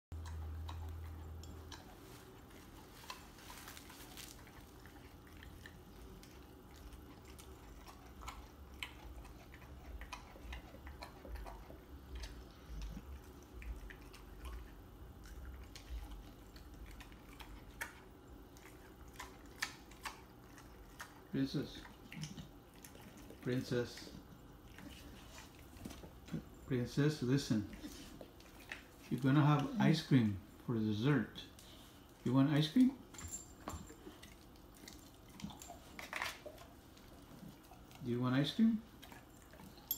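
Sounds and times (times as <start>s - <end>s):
dog chewing meat and bone: 0.1s - 39.9s.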